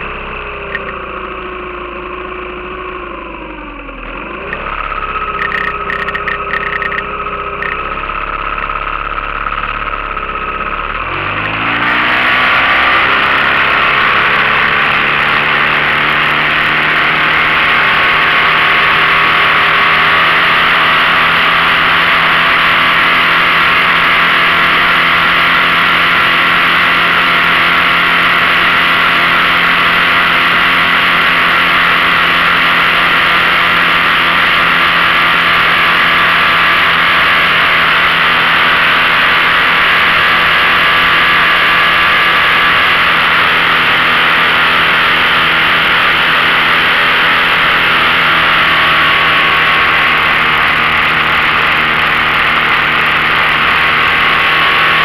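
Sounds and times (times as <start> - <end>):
outboard motor: 0.0 - 55.0.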